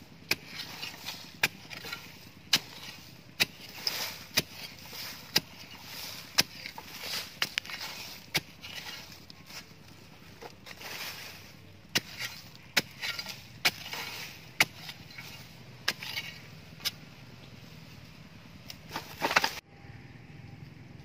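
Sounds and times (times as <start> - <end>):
spade striking hard soil: 0.0 - 17.0, 18.7 - 19.6
earth crumbling and scraping: 0.0 - 19.6.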